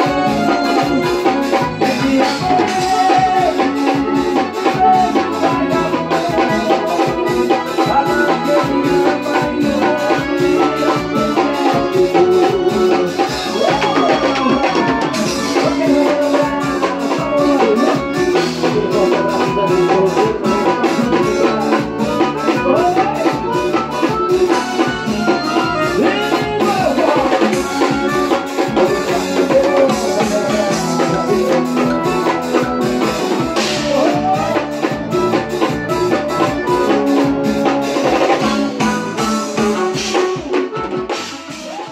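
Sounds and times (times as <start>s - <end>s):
accordion melody: 0.0s - 41.9s
bass guitar: 0.0s - 41.9s
fast drum beat: 0.0s - 41.9s.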